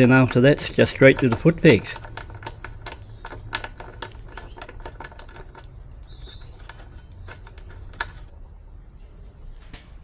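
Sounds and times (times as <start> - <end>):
socket wrench clicking: 0.0 - 8.3.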